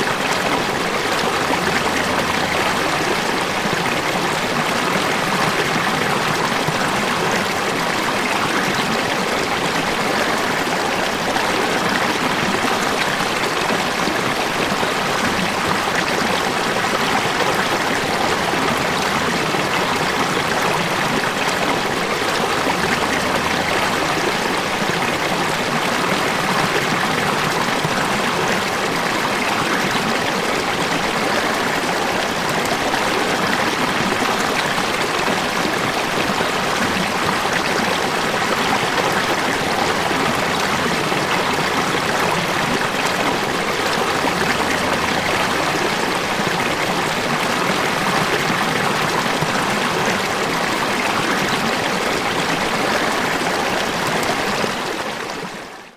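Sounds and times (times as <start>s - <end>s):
falling water rushing: 0.0s - 55.9s.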